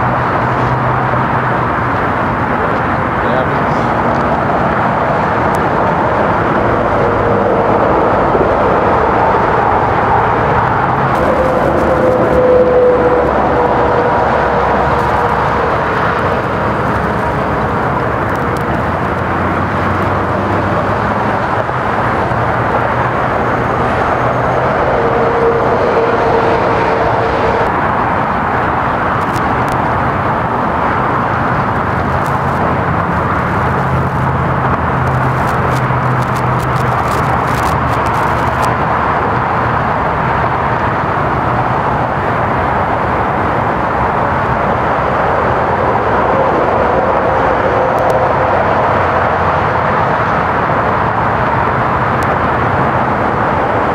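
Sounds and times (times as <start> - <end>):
freeway traffic: 0.0 - 53.9.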